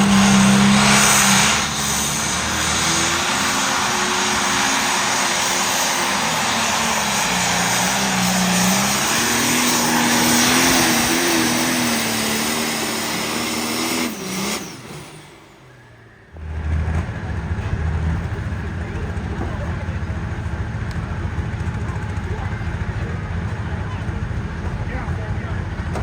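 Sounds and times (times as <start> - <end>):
pulling engine roaring under load: 0.0 - 26.0.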